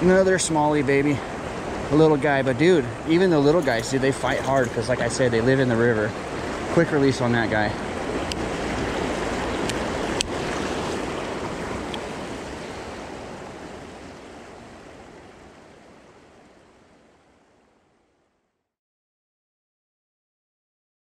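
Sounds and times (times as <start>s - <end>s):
rushing river water: 0.0s - 18.0s.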